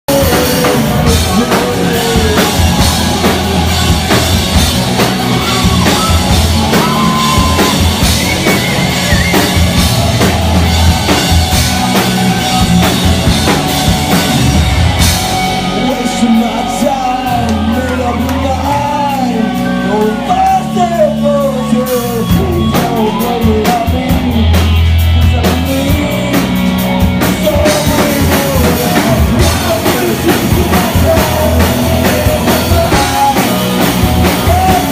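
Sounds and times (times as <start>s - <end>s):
person singing: 0.0s - 12.8s, 15.3s - 34.9s
drum kit: 0.1s - 34.9s
live rock band playing: 0.1s - 34.9s.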